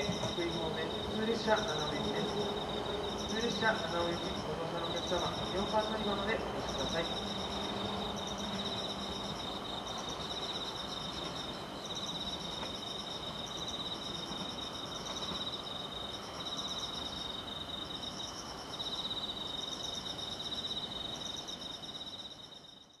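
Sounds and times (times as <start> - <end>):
insect chirping high phrases: 0.0 - 23.0
insect fast trill: 0.0 - 23.0.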